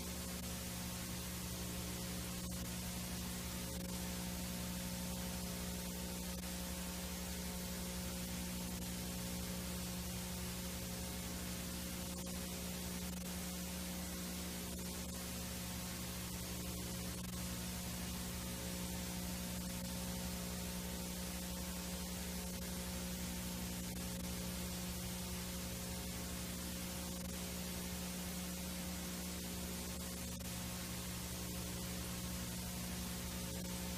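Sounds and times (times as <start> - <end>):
low mains hum: 0.0 - 33.9
tape hiss: 0.0 - 33.9.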